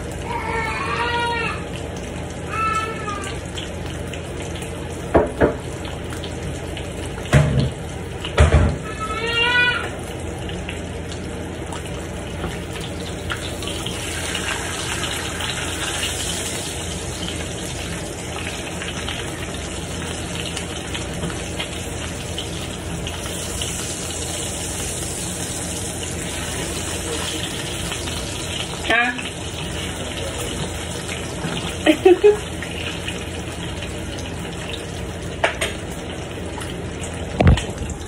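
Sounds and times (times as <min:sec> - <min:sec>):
eggs sizzling in a frying pan: 0:00.0 - 0:38.0.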